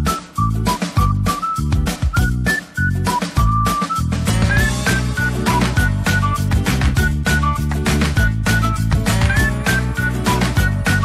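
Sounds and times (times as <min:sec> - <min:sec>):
music with high melody: 0:00.0 - 0:11.0.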